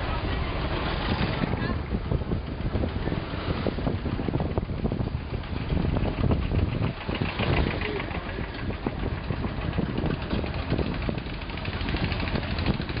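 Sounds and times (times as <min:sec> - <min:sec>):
road noise: 0:00.0 - 0:13.0
small vehicle engine running: 0:00.0 - 0:13.0.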